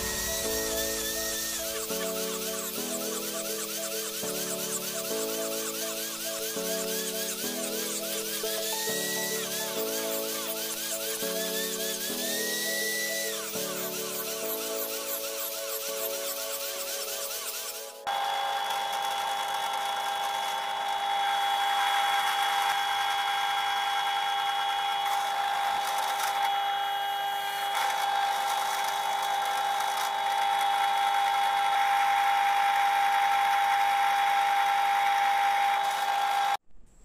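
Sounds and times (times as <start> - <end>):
drill press whining: 0.0 - 36.6.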